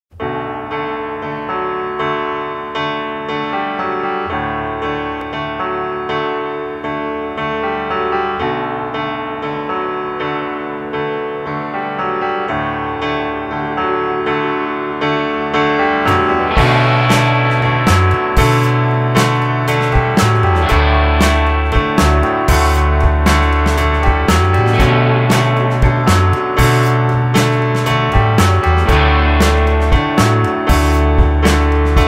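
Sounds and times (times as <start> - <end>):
gentle piano music: 0.2 - 32.0.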